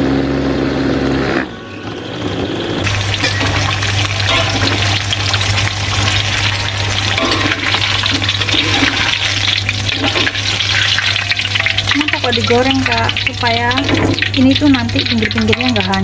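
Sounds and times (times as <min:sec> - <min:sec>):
eggplants deep-frying in oil: 0:02.8 - 0:16.0
wire strainer stirring: 0:03.1 - 0:16.0.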